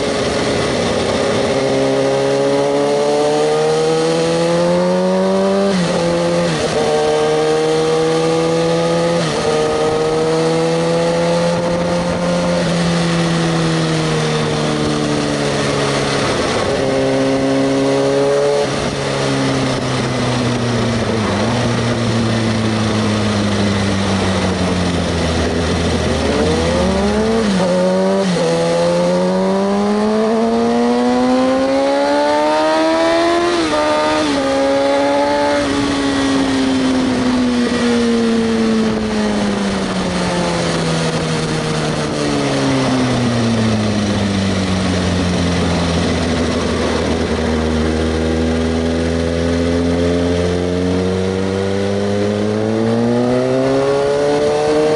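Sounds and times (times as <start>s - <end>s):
motorcycle engine shifting gears: 0.0s - 54.9s.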